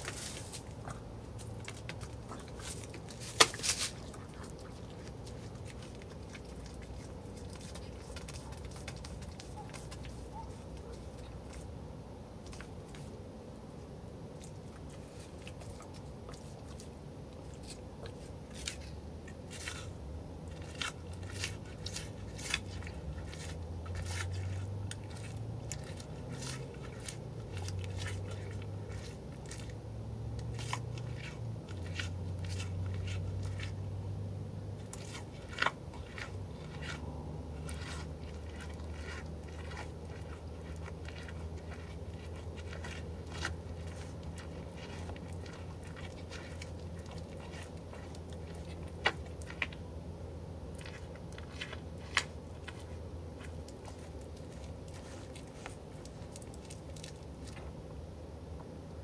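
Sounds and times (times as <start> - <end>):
deer chewing food: 0.0 - 13.3, 14.2 - 58.0.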